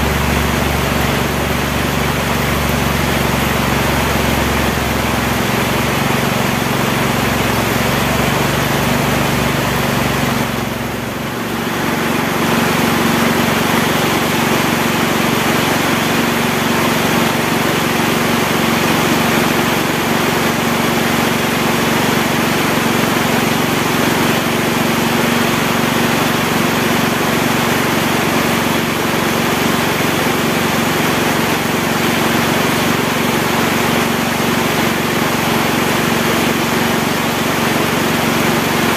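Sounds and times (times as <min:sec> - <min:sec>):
heavy rain in forest: 0:00.0 - 0:38.9.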